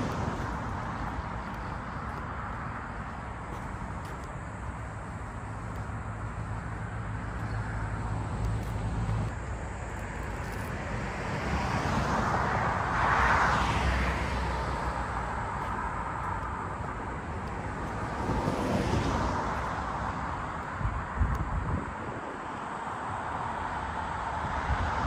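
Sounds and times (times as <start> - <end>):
car passing: 0.0 - 25.0
low traffic rumble: 0.0 - 25.0.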